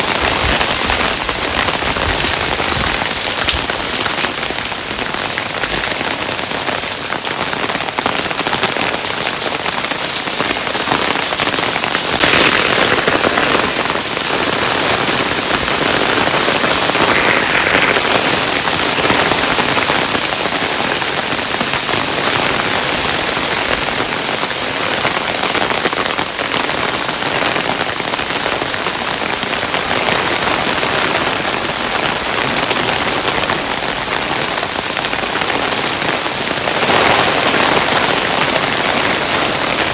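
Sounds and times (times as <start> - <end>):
hailstones pattering: 0.0 - 39.9.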